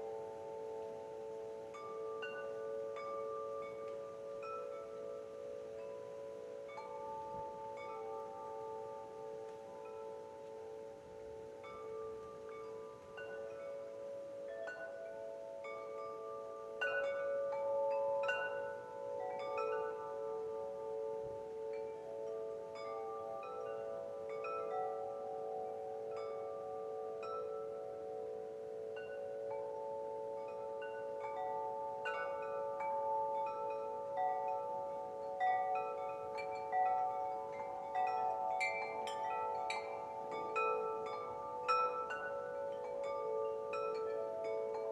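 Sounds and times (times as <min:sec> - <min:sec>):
wind chimes ringing: 0:00.0 - 0:44.9.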